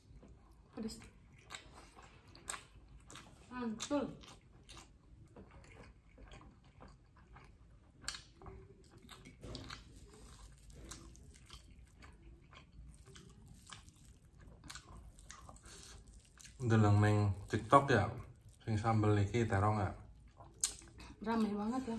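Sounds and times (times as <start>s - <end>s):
people chewing: 0.0s - 21.9s.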